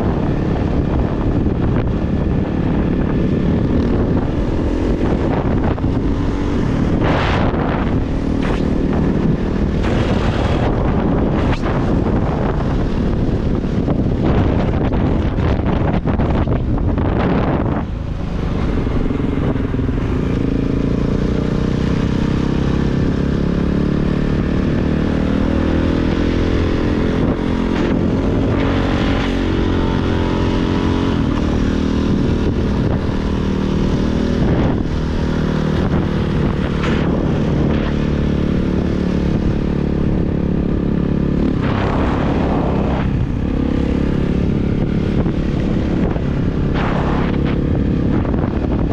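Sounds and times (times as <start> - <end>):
wind buffeting microphone: 0.0 - 48.9
dirt bike engine revving: 2.7 - 13.3, 18.4 - 48.9.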